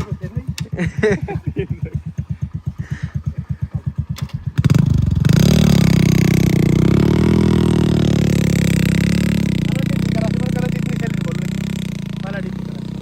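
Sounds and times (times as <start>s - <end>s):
heavy vehicle engine revving: 0.0s - 13.0s.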